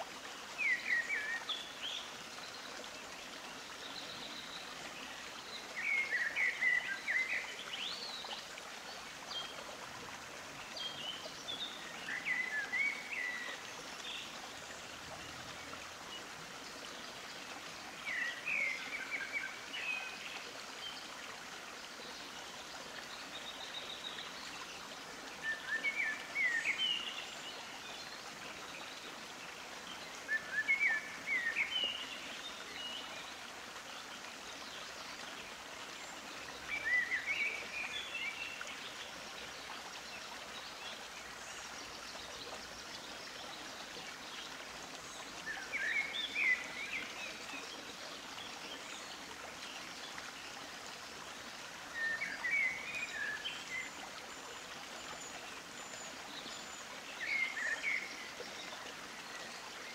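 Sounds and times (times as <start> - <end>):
steady rush of water: 0.0 - 59.9.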